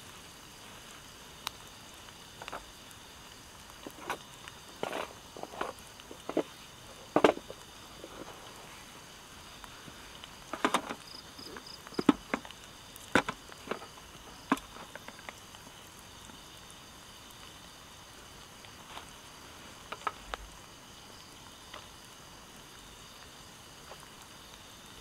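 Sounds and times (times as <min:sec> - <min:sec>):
insects calling: 0:00.0 - 0:25.0.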